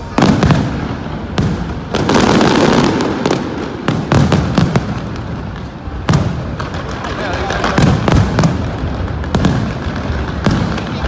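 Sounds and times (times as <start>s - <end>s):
fireworks bangs and booms: 0.0s - 11.0s
fireworks crackling: 0.0s - 11.0s.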